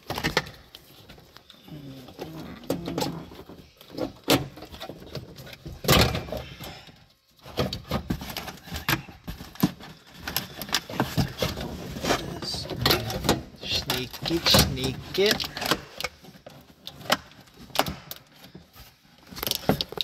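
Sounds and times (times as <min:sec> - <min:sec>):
plastic car parts clicking and rattling: 0:00.0 - 0:20.0.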